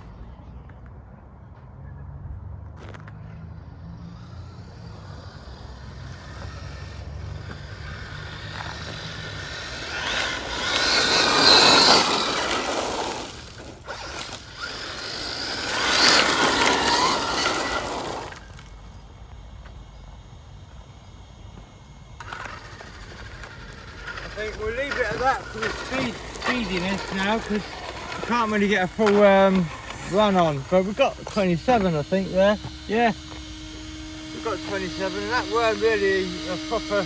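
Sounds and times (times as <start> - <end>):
rc car motor whine passing: 2.1 - 37.0.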